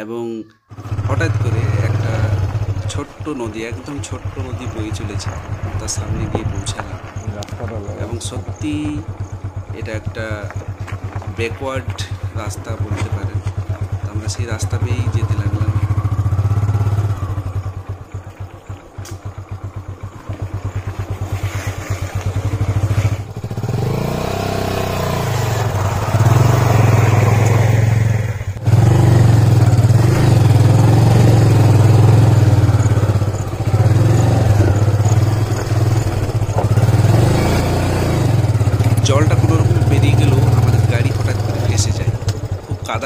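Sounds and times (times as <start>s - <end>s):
motorcycle engine revving: 0.7s - 43.0s.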